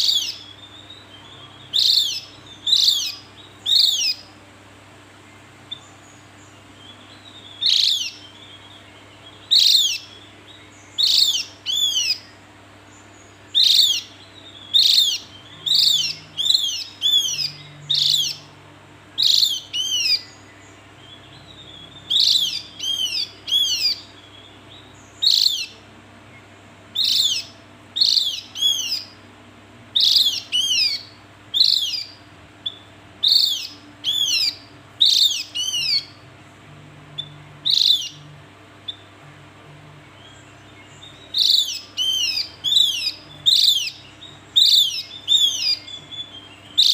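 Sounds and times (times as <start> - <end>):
bird calling high notes: 0.0 - 4.3, 6.6 - 12.4, 13.4 - 25.8, 29.9 - 36.2, 37.1 - 39.2, 39.9 - 46.9.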